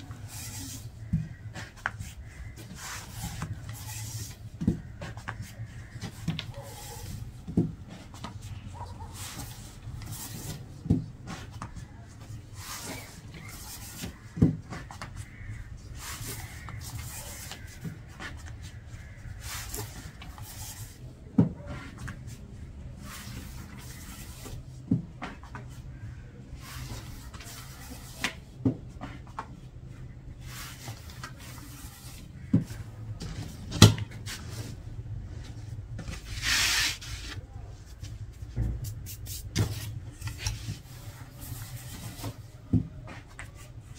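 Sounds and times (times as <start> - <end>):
rubbing and scraping on wood: 0.0 - 43.9.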